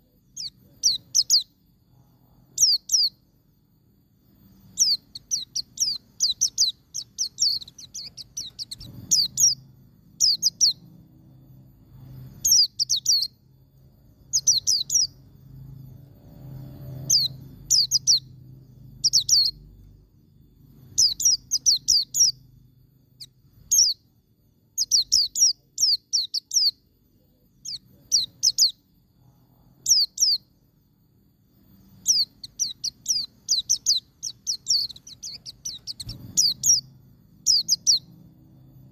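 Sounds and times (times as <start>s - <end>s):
bird singing high chirps: 0.0s - 3.6s, 4.3s - 30.8s, 31.7s - 38.9s.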